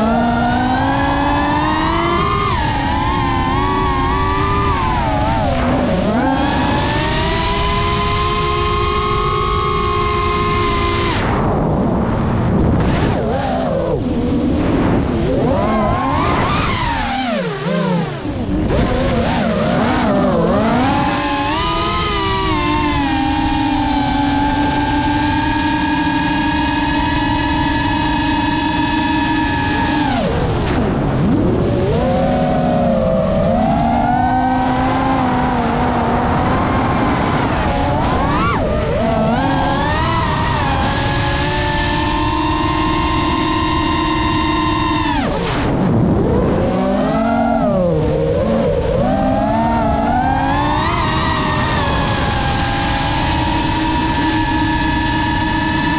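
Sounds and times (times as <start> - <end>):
drone motors whining: 0.0 - 55.9.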